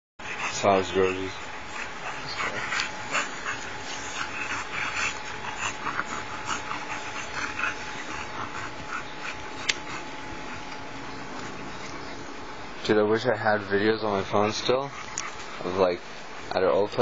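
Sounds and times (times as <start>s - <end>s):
dogs play-fighting: 0.2s - 12.6s, 13.6s - 15.9s.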